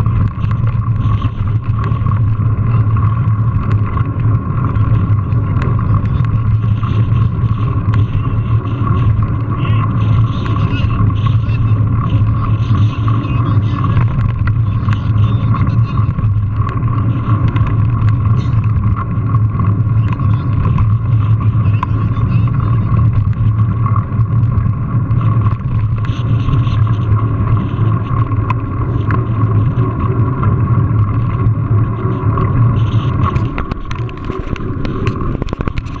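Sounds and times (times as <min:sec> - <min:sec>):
bike clicks and rattles: 0:00.0 - 0:36.0
bike tyres rolling on pavement: 0:00.0 - 0:36.0.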